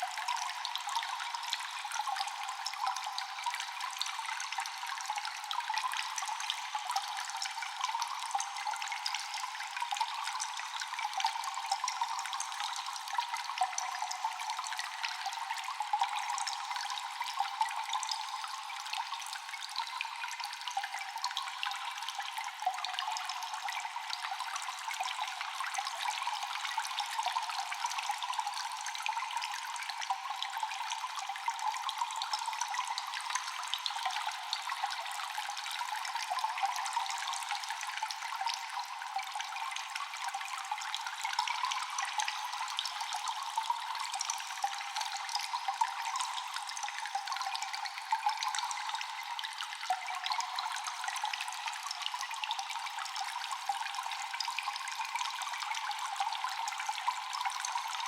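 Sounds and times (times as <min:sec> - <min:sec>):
echoing dripping water: 0:00.0 - 0:58.0.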